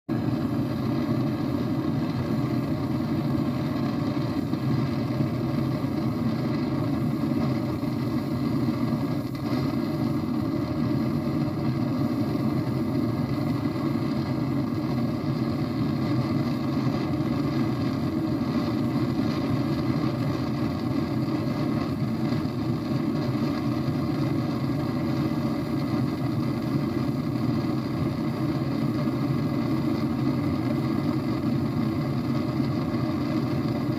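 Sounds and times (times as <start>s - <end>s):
blowtorch roaring: 0.1s - 33.9s.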